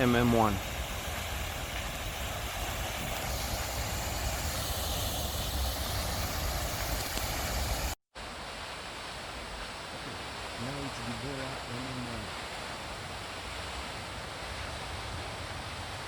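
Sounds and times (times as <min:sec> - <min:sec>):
fountain spray hiss: 0:00.0 - 0:16.0.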